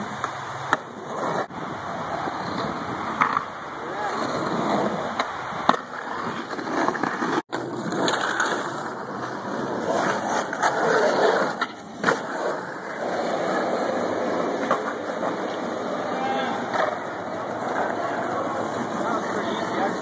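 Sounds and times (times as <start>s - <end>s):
skateboard clacks: 0.0s - 20.0s
skateboard wheels rolling on concrete: 0.0s - 20.0s.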